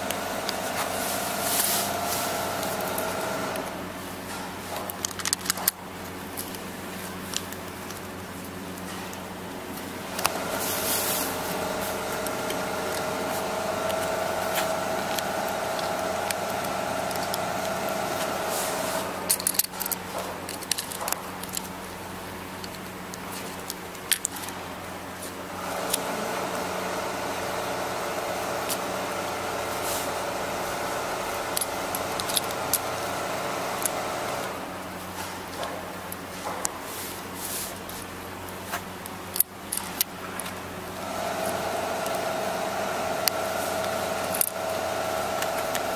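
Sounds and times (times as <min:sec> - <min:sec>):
machine hum: 0:00.0 - 0:36.6, 0:38.1 - 0:45.9.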